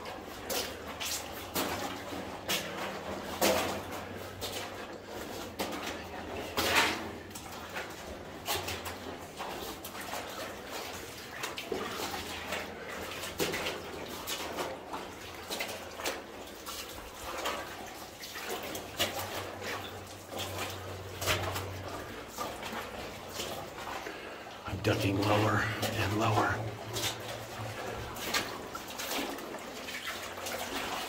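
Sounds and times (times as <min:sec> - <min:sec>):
footsteps splashing through water: 0:00.0 - 0:31.0
water dripping: 0:00.5 - 0:31.0.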